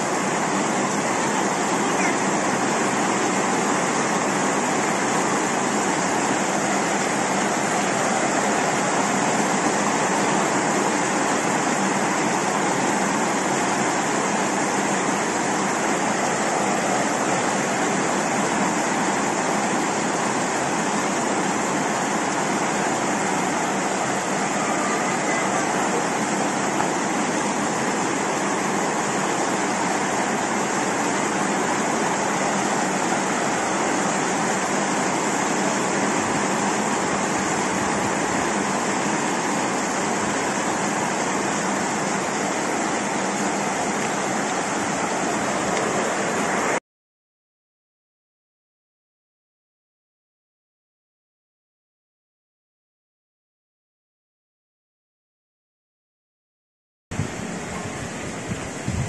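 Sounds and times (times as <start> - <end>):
rushing water: 0.0 - 46.8, 57.1 - 59.0.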